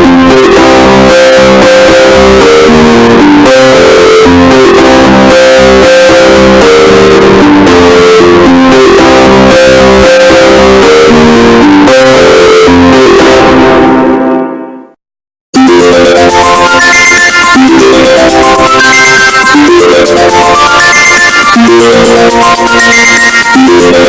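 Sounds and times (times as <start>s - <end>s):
distorted plucked alarm melody: 0.0s - 14.2s, 15.6s - 24.0s.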